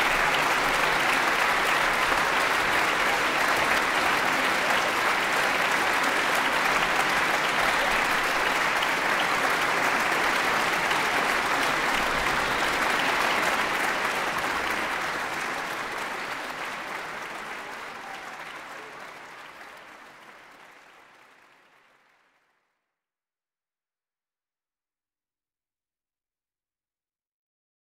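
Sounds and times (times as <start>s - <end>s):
audience applauding: 0.0s - 22.8s.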